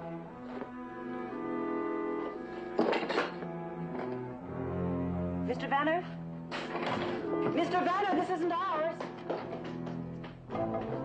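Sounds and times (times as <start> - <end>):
suspenseful string music: 0.0 - 11.0.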